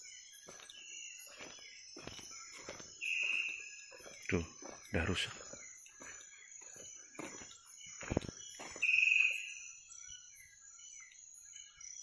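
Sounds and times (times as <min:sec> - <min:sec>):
faint scattered chirps: 0:00.0 - 0:12.0
insects chirring: 0:00.0 - 0:12.0.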